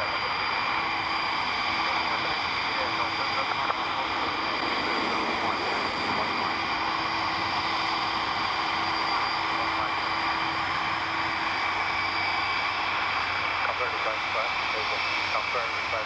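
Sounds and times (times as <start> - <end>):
jet airliner engines running: 0.0 - 16.0.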